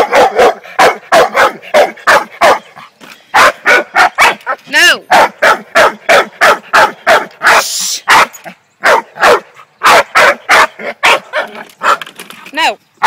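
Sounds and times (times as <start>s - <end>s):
dog barking rapidly: 0.0s - 12.1s.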